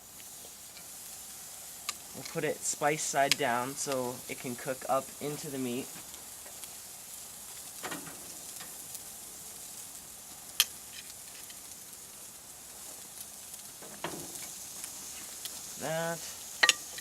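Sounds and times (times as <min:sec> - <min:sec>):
steaks sizzling on a grill: 0:00.0 - 0:17.0.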